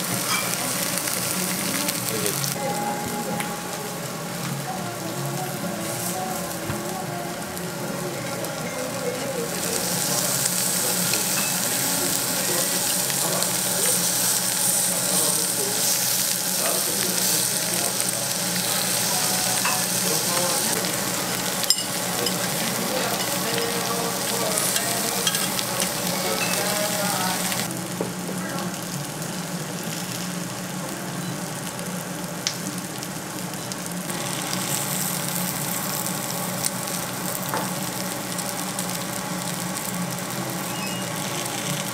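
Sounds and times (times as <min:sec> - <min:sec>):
meat sizzling on grill pan: 0:00.0 - 0:41.9.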